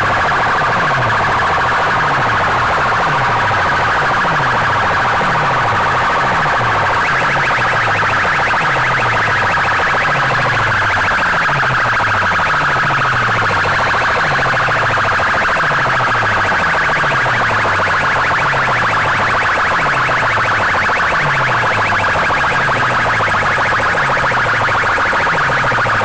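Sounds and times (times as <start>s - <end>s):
siren-like electronic music: 0.0s - 26.0s.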